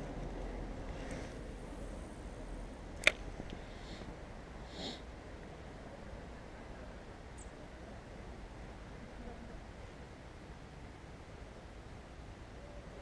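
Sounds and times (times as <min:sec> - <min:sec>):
outdoor background: 0:00.0 - 0:13.0.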